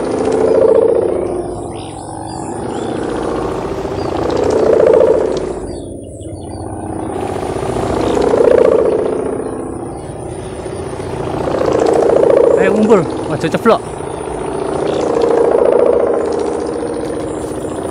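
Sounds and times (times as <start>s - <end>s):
kite hummer droning: 0.0s - 17.9s.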